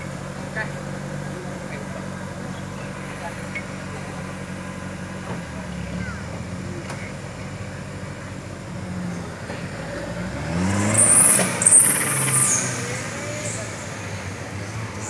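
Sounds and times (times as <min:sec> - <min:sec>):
vehicle engine idling and revving: 0:00.0 - 0:15.0.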